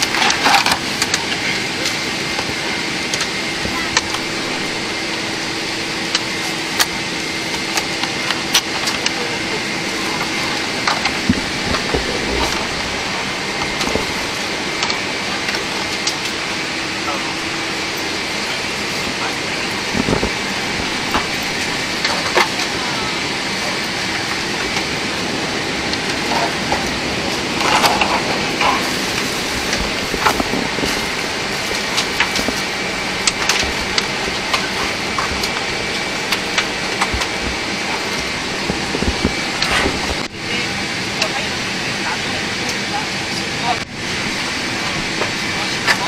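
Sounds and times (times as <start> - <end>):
cabin ventilation air rushing: 0.0 - 46.0
faint steady whine: 0.0 - 46.0.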